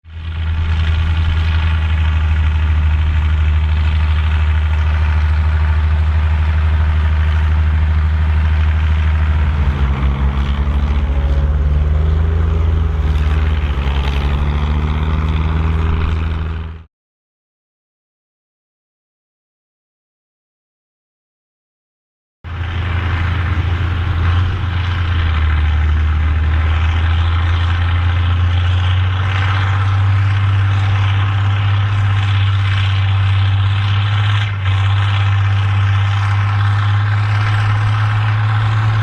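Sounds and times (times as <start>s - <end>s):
tractor diesel engine running: 0.0s - 16.9s, 22.5s - 39.0s.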